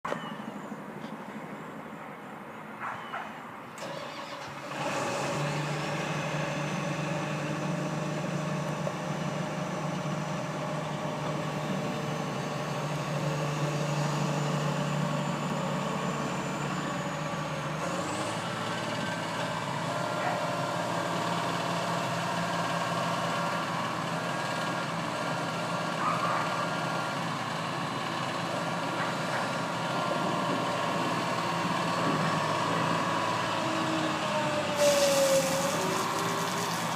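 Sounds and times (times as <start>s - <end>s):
diesel engine running: 3.8s - 36.9s.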